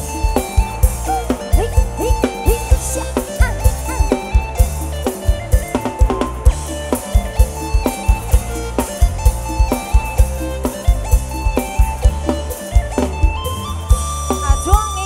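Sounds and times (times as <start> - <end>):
drum kit beat: 0.0 - 15.0
live band playing: 0.0 - 15.0.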